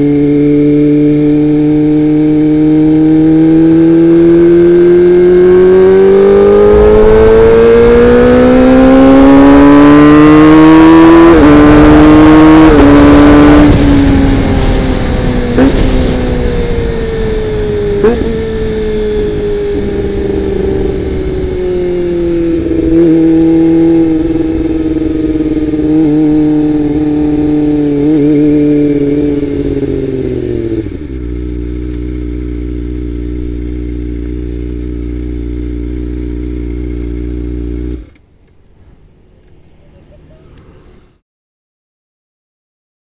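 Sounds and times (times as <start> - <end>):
motorcycle engine revving: 0.0 - 41.2.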